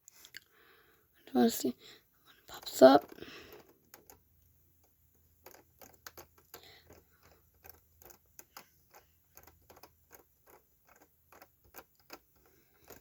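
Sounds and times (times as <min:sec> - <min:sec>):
faint clicks and taps: 0:02.2 - 0:13.0.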